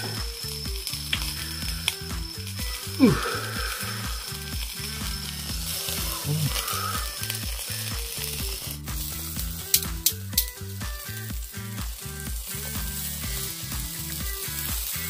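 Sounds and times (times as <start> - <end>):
meat sizzling on grill: 0.0 - 15.0
music with bass beat: 0.0 - 15.0.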